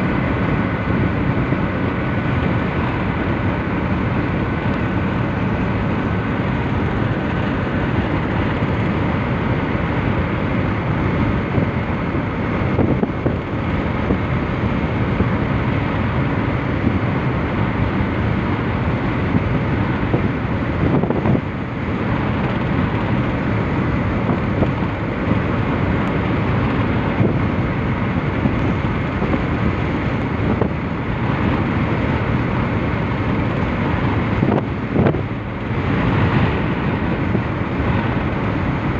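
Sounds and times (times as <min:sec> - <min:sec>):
road and wind noise inside car: 0:00.0 - 0:38.9.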